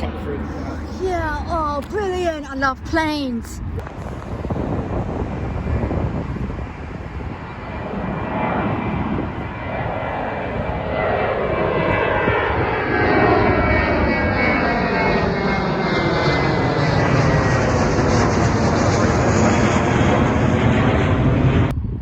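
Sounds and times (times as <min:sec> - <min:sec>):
jet airliner engine rumble: 0:00.0 - 0:22.0.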